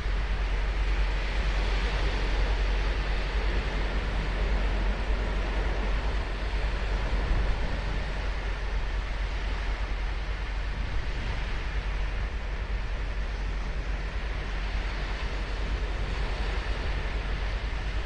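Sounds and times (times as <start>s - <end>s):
ocean waves washing on beach: 0.0s - 18.0s
wind rumble on microphone: 0.0s - 18.0s.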